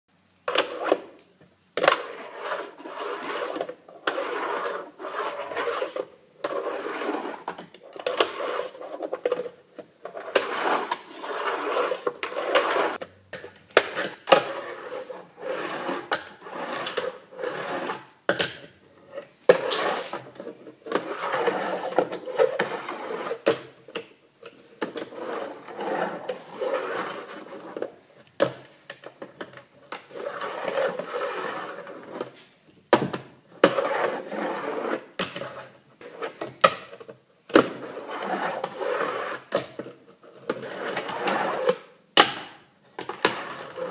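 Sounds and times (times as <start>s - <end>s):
small wheels rolling on plywood: 0.4s - 42.3s, 42.9s - 43.9s.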